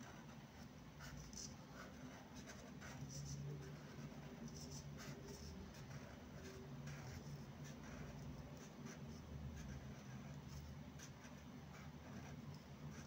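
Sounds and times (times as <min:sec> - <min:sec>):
low background hum: 0:00.0 - 0:13.0
pen nib scratching paper: 0:01.0 - 0:13.0.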